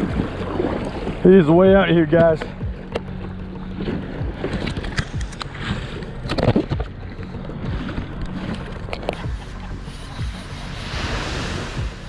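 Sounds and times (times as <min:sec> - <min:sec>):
paddle strokes splashing: 0:00.0 - 0:12.0
water sloshing against kayak hull: 0:00.0 - 0:12.0.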